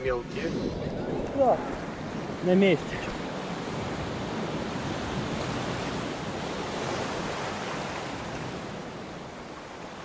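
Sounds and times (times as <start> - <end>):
sea waves washing in a cave: 0.0 - 10.0.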